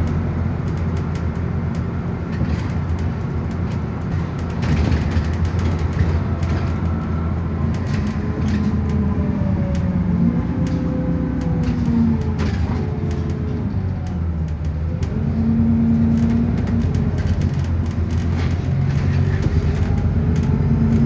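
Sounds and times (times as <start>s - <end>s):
bus engine running: 0.0s - 21.0s
road noise: 0.0s - 21.0s.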